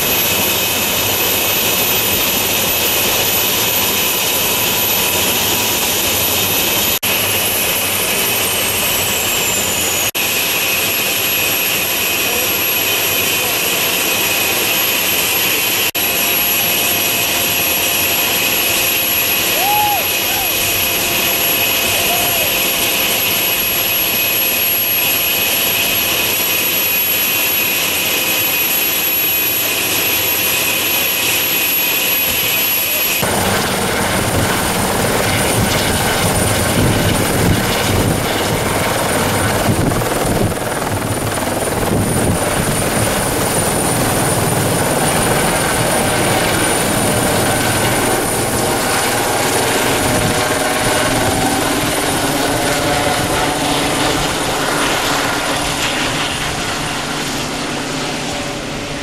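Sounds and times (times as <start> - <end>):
helicopter rotor noise: 0.0 - 59.0
helicopter turbine whine: 0.0 - 59.0.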